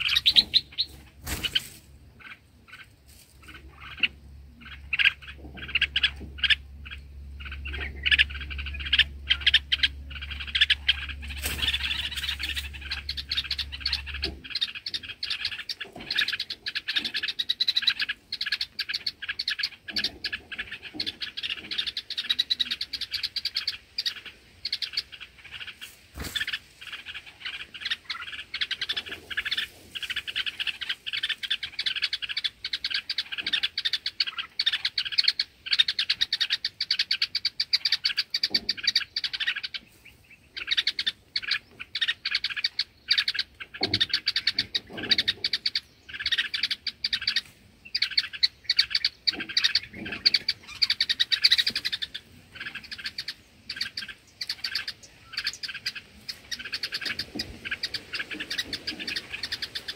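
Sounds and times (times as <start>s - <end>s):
bird alarm calls: 0.0s - 59.9s.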